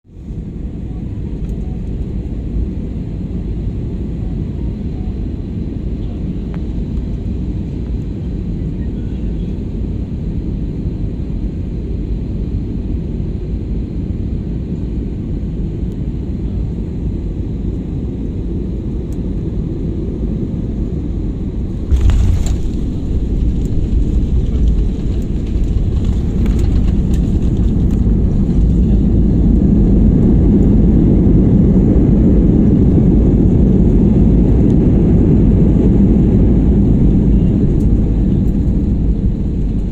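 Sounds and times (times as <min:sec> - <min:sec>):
aeroplane engine rumble: 0:00.0 - 0:39.9.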